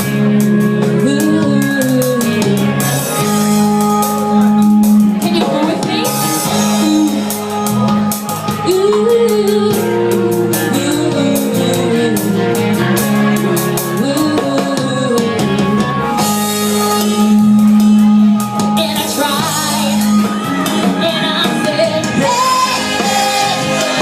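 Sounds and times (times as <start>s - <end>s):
drum kit with cymbals: 0.0s - 24.0s
held chords: 0.0s - 24.0s
wavering lead melody: 0.0s - 24.0s.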